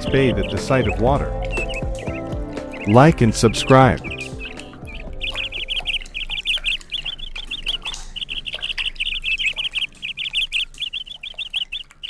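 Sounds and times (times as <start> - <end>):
bird chattering call: 0.0 - 12.0.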